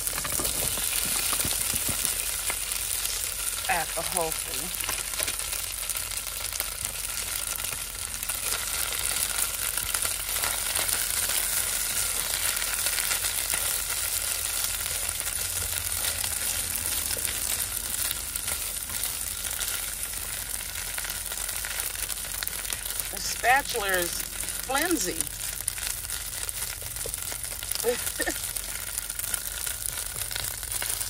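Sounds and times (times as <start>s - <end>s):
food sizzling in grease: 0.0s - 31.0s.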